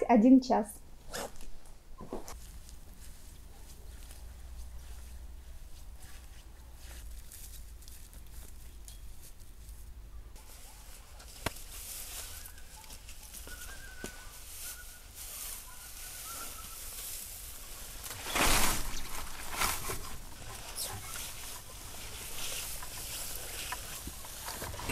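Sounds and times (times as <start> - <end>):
dry hay rustling and crackling: 2.3 - 24.9.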